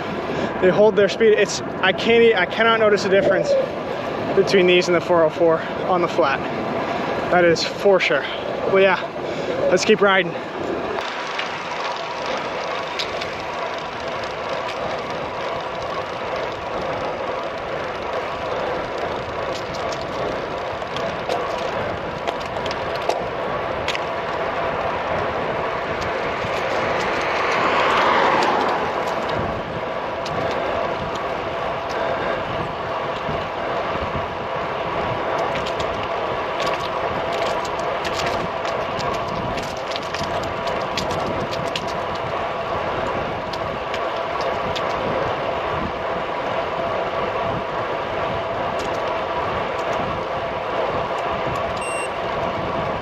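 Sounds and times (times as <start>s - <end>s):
bicycle road noise: 0.0s - 53.0s
bike tyres rolling on tarmac: 0.0s - 53.0s
wind rush: 0.0s - 53.0s.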